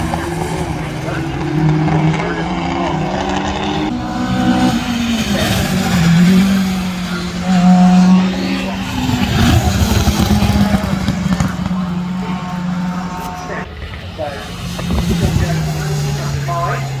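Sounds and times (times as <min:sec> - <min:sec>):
rally car engine running hard: 0:00.0 - 0:17.0.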